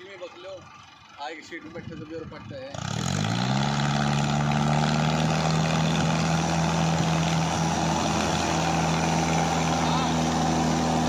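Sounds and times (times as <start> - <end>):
tractor diesel engine at high revs: 0.0 - 11.0.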